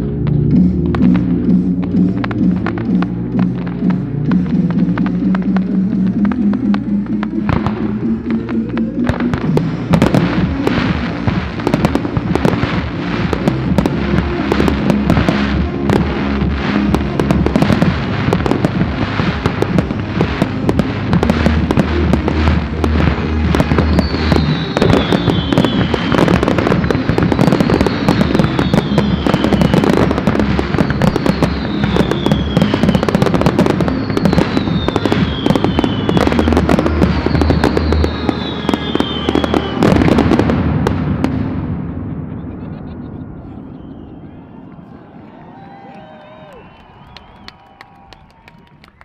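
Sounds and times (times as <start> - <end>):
music with low beat: 0.0 - 41.9
fireworks bursting and crackling: 0.0 - 49.0.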